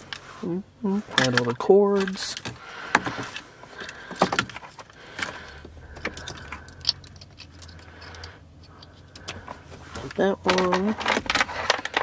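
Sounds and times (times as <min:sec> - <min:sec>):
plastic connectors rattling and clicking: 0:01.1 - 0:12.0.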